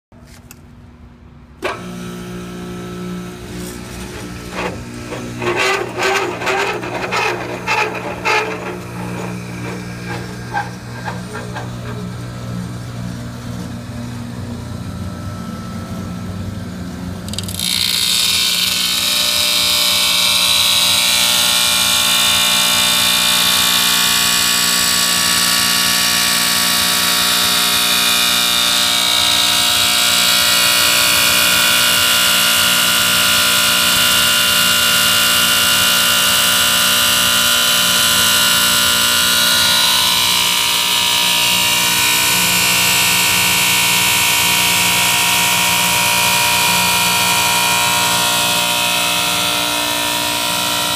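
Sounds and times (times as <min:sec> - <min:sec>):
power grinder whining: 0:01.6 - 0:13.1, 0:17.3 - 0:50.9.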